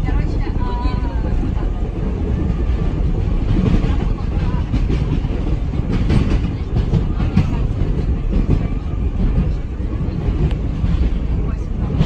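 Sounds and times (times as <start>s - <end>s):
subway car rumble: 0.0s - 12.0s.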